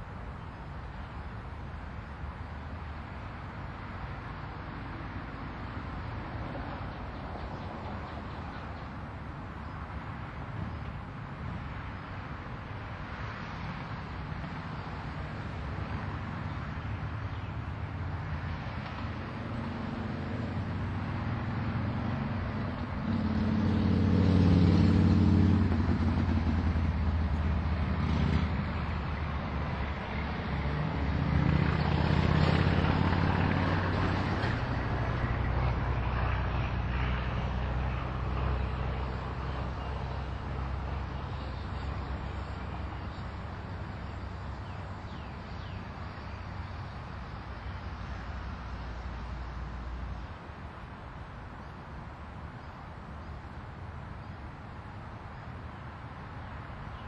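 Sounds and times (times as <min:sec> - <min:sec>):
vehicles passing on road: 0:00.0 - 0:57.0.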